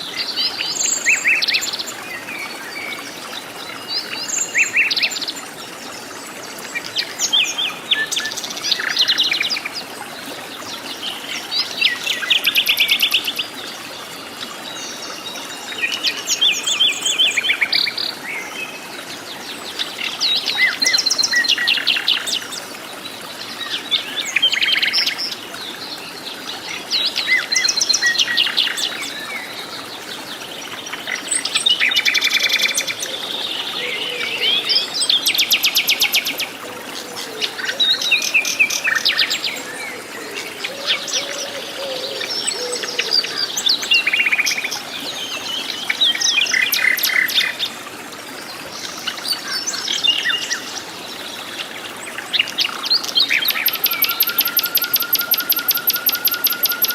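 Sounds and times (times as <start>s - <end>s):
forest birds singing: 0.0s - 47.8s, 48.5s - 56.9s.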